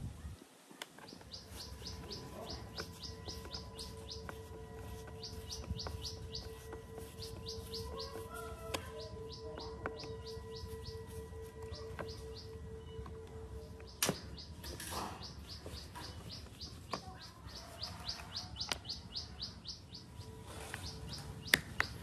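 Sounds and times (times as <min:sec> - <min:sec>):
bird chirping: 0:01.0 - 0:22.0.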